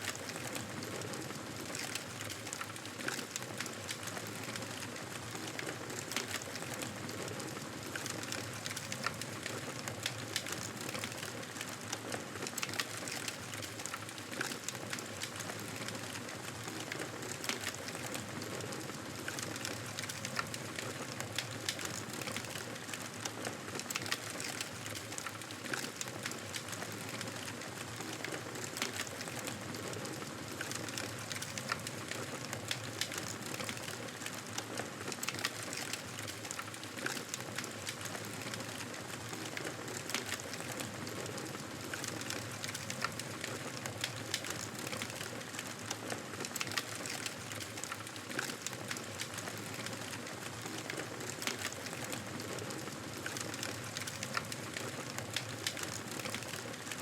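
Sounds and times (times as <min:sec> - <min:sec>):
campfire crackling: 0:00.1 - 0:23.2, 0:23.8 - 0:56.9.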